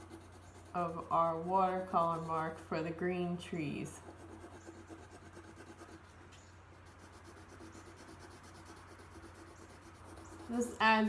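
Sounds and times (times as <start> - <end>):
colored pencil scratching on paper: 0.0 - 11.0.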